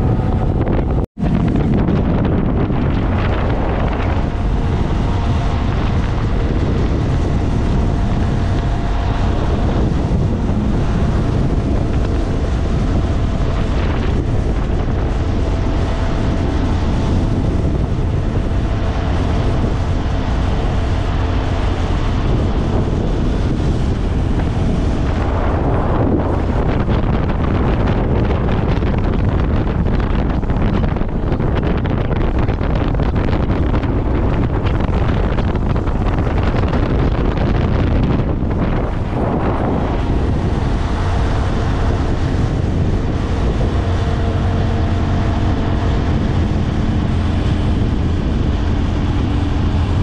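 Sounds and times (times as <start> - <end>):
motorcycle engine running: 0.0 - 50.0
wind buffeting microphone: 0.0 - 50.0.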